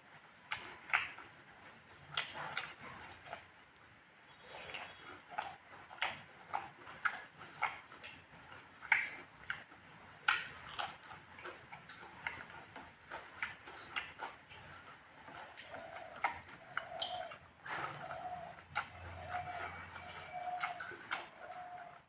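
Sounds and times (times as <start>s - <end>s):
person chewing and lip-smacking: 0.4s - 3.5s, 4.3s - 22.0s.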